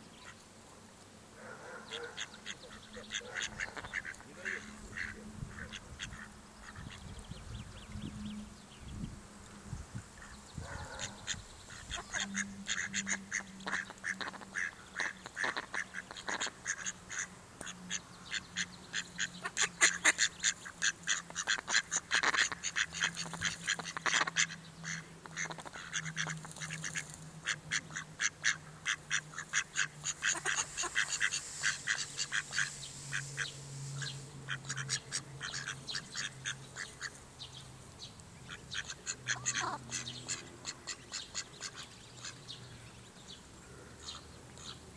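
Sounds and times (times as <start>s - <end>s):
ducks calling: 1.5s - 7.4s, 10.2s - 37.7s, 38.4s - 42.8s, 43.6s - 44.8s.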